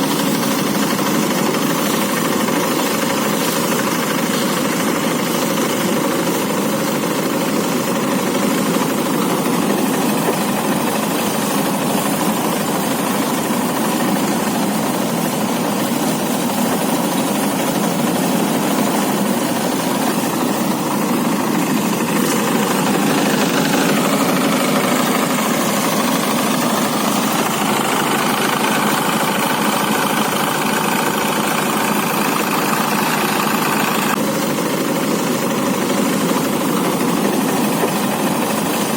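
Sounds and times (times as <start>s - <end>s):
threshing machine running: 0.0s - 38.9s.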